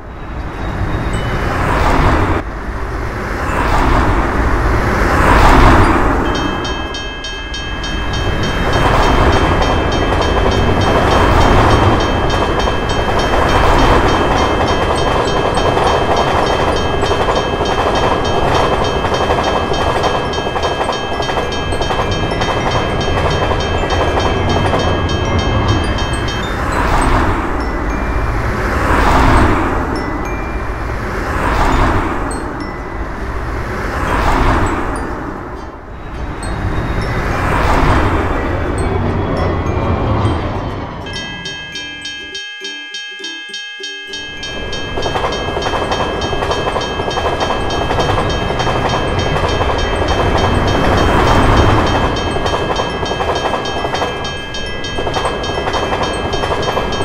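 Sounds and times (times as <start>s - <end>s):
road vehicles passing: 0.0s - 42.4s, 44.2s - 57.0s
crossing warning bell ringing: 0.0s - 57.0s
train rumbling past: 0.0s - 57.0s.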